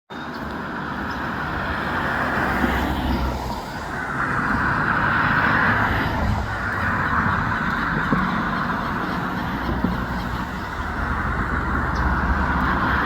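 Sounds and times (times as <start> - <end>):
outdoor rushing noise: 0.2 - 13.0.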